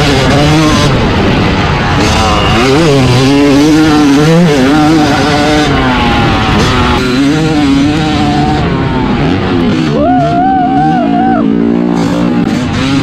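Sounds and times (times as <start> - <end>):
motocross engine revving: 0.0 - 13.0.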